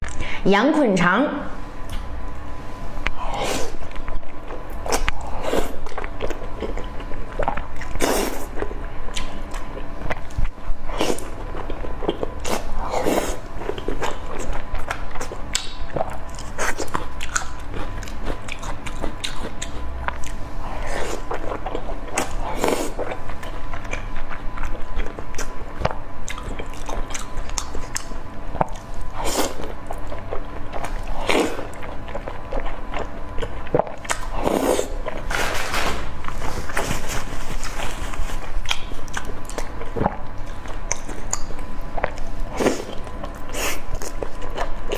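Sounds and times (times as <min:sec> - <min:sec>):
biting and chewing food: 0:03.8 - 0:44.9.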